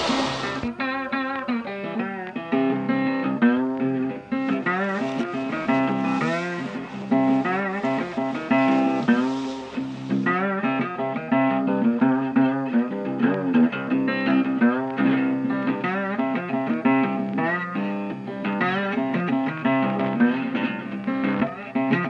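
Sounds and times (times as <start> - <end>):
guitar with bent notes: 0.0 - 22.0.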